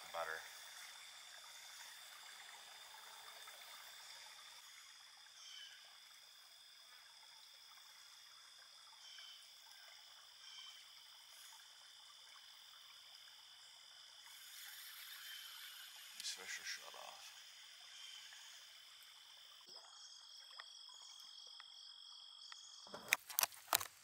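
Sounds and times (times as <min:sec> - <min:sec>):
water trickling: 0:00.0 - 0:21.9.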